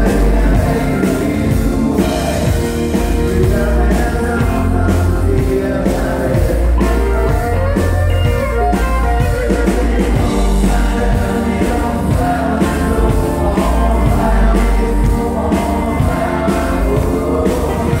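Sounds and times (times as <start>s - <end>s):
electric guitars: 0.0s - 18.0s
live band playing: 0.0s - 18.0s
man singing: 0.0s - 18.0s.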